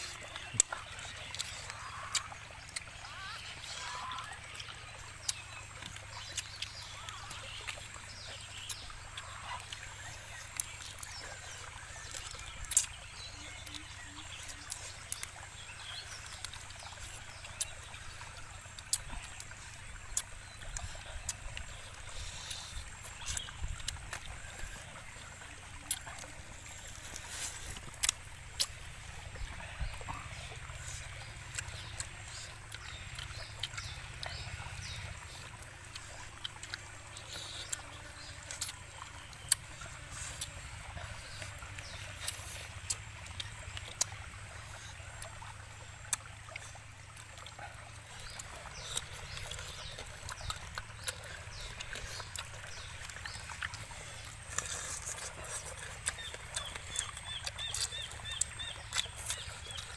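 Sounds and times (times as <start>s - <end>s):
chewing clicks and smacks: 0.0s - 59.9s
flowing stream water: 0.0s - 59.9s.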